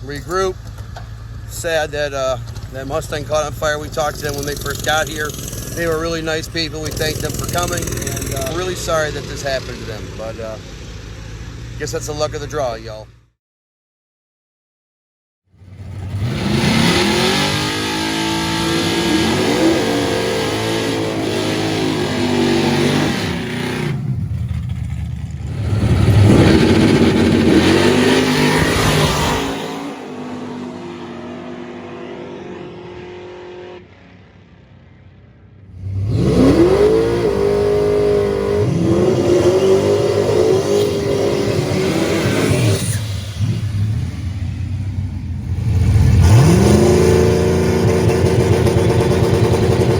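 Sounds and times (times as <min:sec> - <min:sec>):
race car engines revving: 0:00.0 - 0:13.1, 0:15.6 - 0:49.9.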